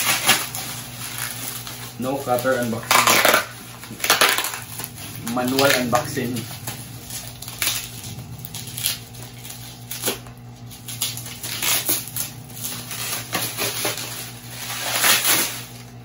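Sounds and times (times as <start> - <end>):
plastic packaging tearing and crinkling: 0.0 - 16.0.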